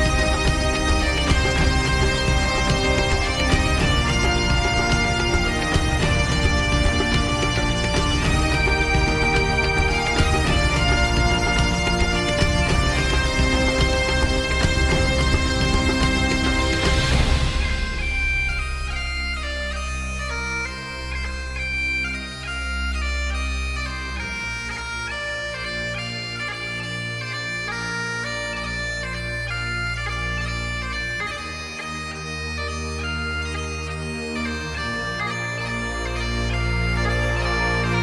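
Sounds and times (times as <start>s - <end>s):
bagpipe melody over drones: 0.0s - 38.0s.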